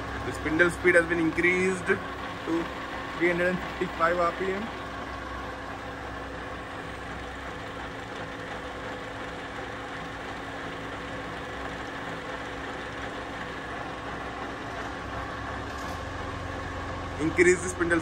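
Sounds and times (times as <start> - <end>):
drill press motor humming: 0.0 - 18.0.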